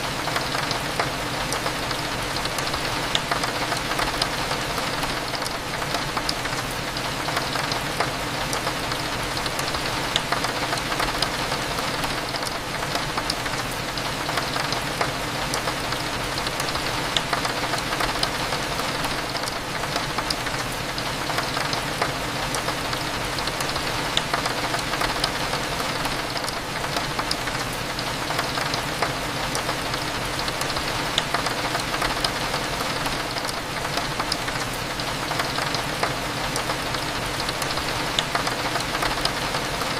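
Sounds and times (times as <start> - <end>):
rain pattering on window glass: 0.0 - 39.9.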